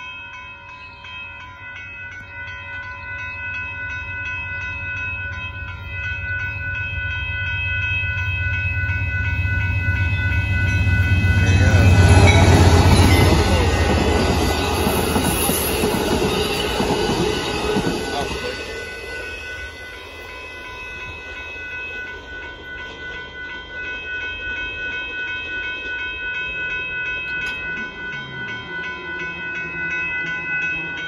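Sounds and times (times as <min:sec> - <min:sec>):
crossing bell ringing: 0:00.0 - 0:31.0
passenger train rumbling past: 0:01.3 - 0:31.0.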